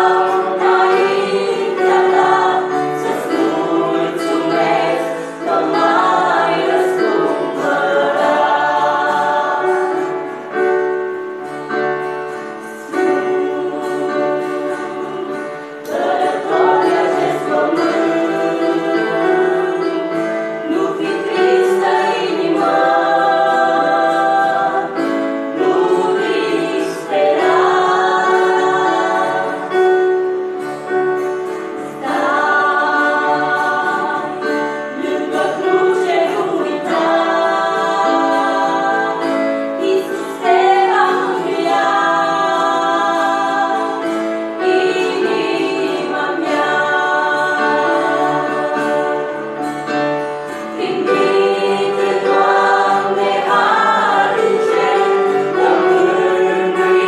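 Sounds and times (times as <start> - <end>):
keyboard playing held chords: 0.0 - 57.0
women singing a hymn: 0.0 - 57.0.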